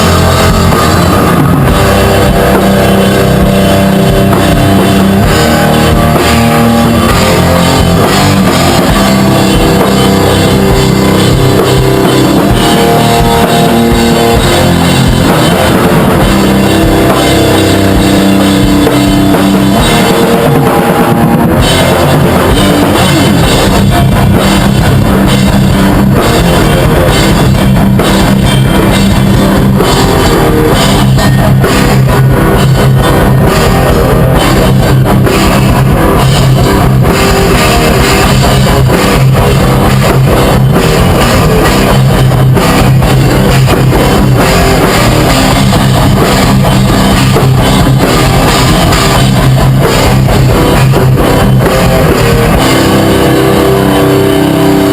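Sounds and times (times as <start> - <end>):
drum kit: 0.0 - 54.9
rock guitar: 0.0 - 54.9.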